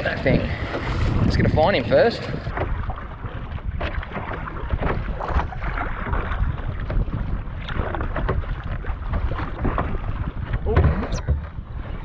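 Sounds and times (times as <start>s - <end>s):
paddle splashes: 0.0s - 12.0s
water slapping against hull: 0.0s - 12.0s
wind buffeting microphone: 0.0s - 12.0s.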